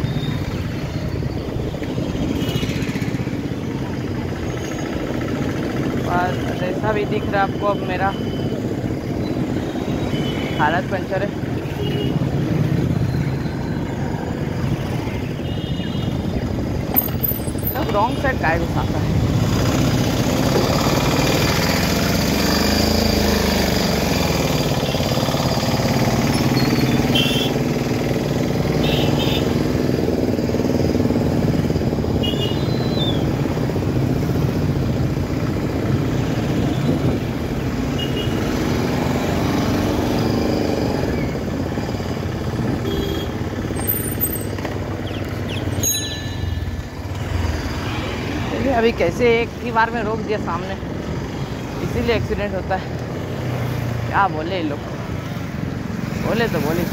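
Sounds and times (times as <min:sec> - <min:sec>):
motorcycle engines running close: 0:00.0 - 0:56.9
road rumble: 0:00.0 - 0:56.9.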